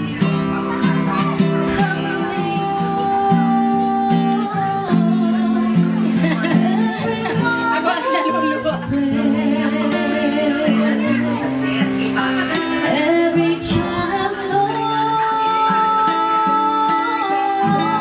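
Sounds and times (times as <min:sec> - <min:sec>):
acoustic guitar: 0:00.0 - 0:18.0
person singing a melody: 0:00.0 - 0:18.0.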